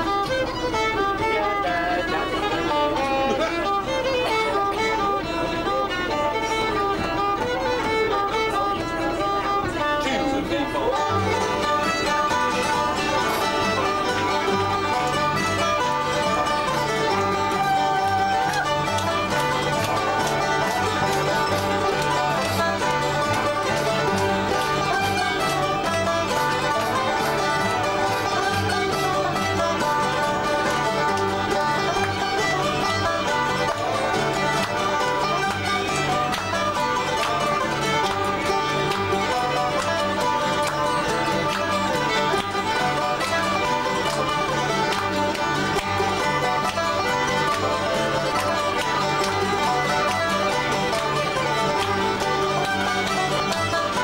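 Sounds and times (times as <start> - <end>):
acoustic folk band playing: 0.0 - 54.0.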